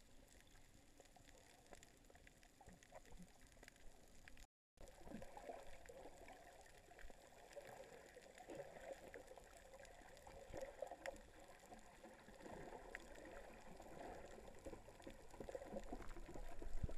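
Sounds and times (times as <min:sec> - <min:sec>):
muffled underwater moving water: 0:00.0 - 0:16.9
small clicks and crackles: 0:00.0 - 0:16.9.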